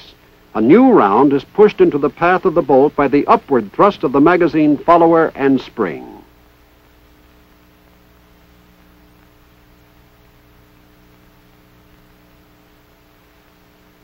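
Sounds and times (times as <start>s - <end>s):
faint film soundtrack hiss: 0.0s - 14.0s
low electrical hum: 0.0s - 14.0s.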